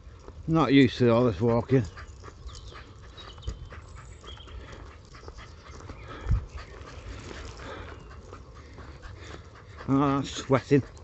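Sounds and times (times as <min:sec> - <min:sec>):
rapid panting breaths: 0:00.0 - 0:11.0.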